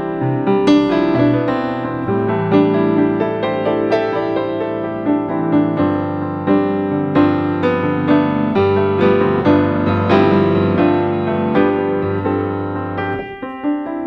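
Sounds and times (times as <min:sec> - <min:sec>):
calm piano music: 0:00.0 - 0:14.0.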